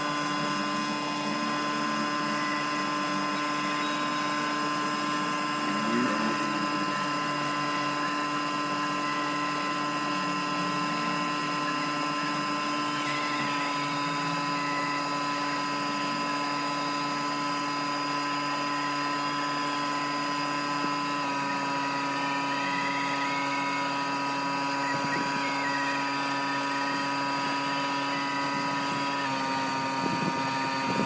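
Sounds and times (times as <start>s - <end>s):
motor droning steadily: 0.0s - 31.0s.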